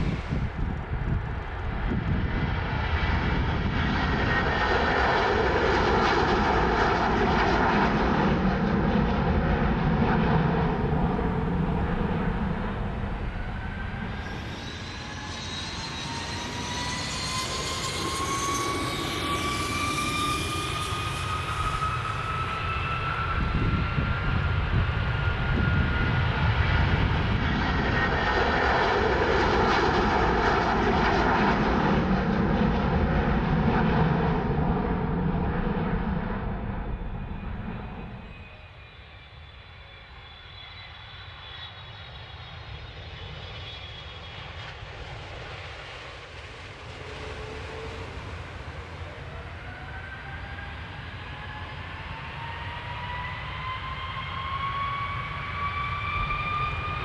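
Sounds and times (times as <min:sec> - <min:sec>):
jet engines roaring for takeoff: 0:00.0 - 0:57.0.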